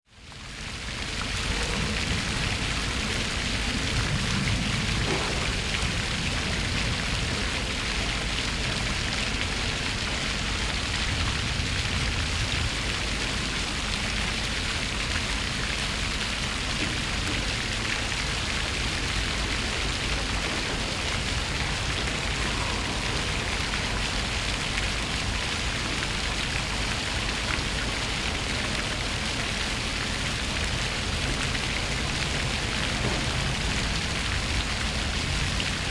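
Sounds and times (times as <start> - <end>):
fountain water splashing: 0.1 - 35.9.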